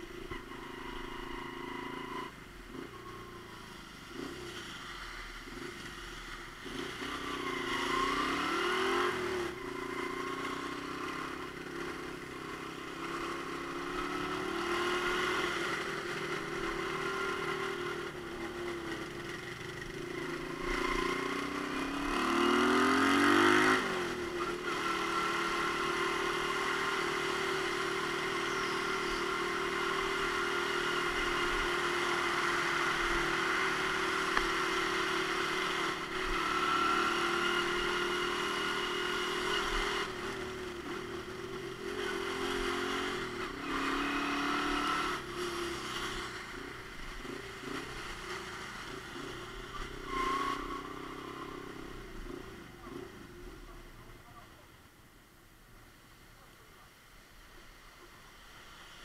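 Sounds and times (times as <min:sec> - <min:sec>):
motorcycle engine accelerating: 0:00.0 - 0:54.6.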